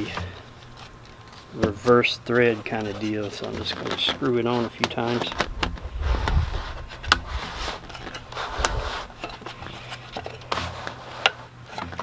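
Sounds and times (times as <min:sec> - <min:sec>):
low steady hum: 0:00.0 - 0:12.0
plastic clicks and scraping: 0:00.0 - 0:12.0.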